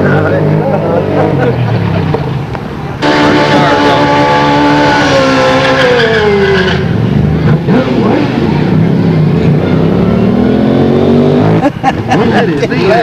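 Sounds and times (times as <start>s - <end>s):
motorcycles passing by: 0.0s - 13.0s.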